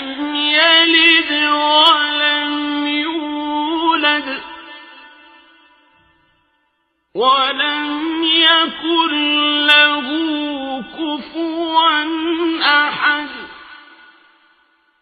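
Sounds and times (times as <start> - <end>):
person chanting recitation: 0.0 - 5.6, 7.2 - 14.4.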